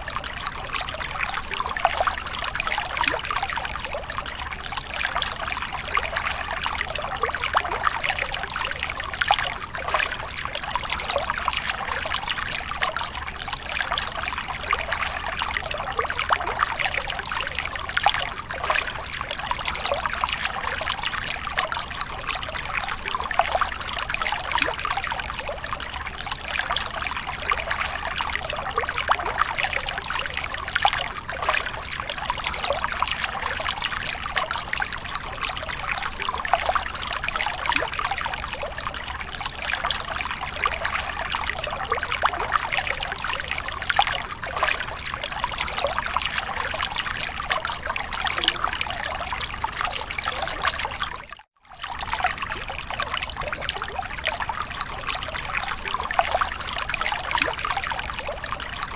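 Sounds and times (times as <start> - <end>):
water trickling over rocks: 0.0 - 58.9.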